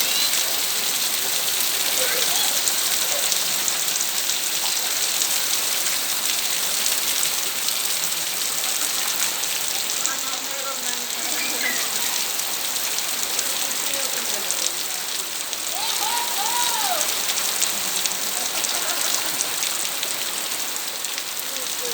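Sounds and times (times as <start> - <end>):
steady rain spattering: 0.0 - 21.9.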